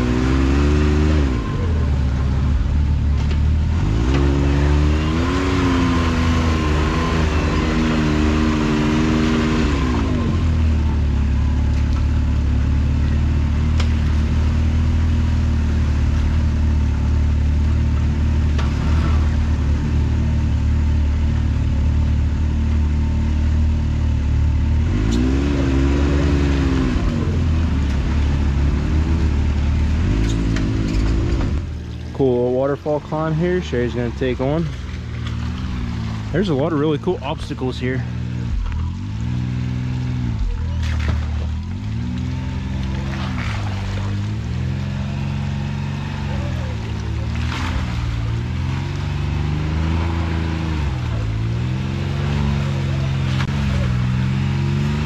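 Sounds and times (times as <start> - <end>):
off-road vehicle engines rumbling: 0.0 - 55.0.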